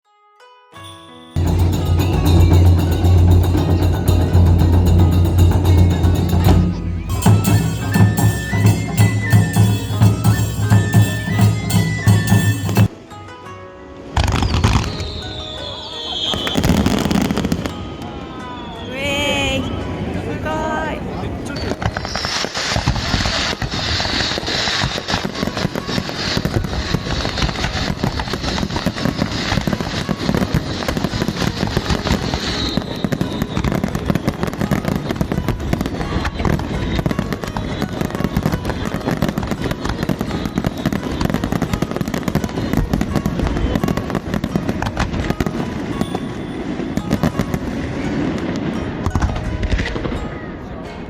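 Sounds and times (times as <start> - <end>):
fireworks crackles and bangs: 1.4 - 13.0, 14.2 - 20.1, 21.4 - 50.3.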